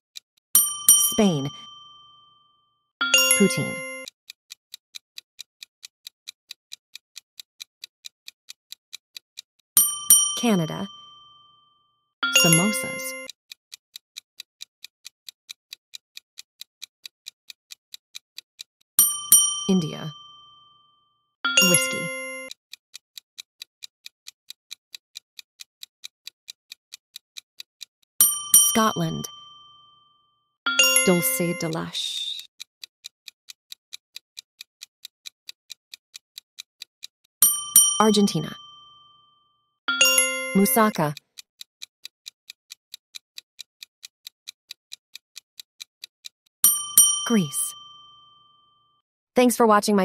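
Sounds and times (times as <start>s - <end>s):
clock ticking: 0.6s - 2.4s, 3.0s - 11.6s, 12.2s - 20.8s, 21.5s - 30.1s, 30.7s - 39.3s, 39.9s - 48.6s.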